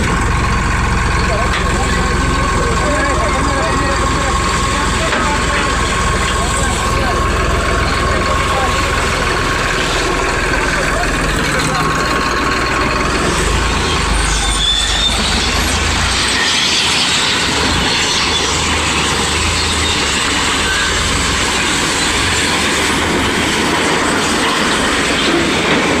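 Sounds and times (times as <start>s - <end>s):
tractor engine rattling: 0.0s - 26.0s.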